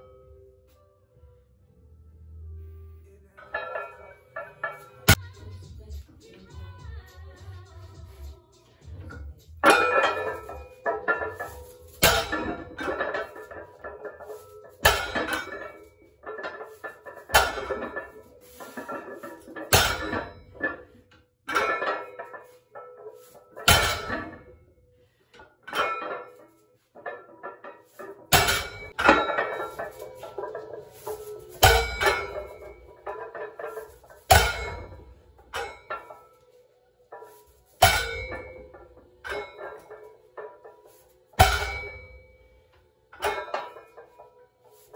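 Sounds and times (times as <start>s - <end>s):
barbell plates clanking: 3.4s - 5.2s, 9.1s - 44.9s.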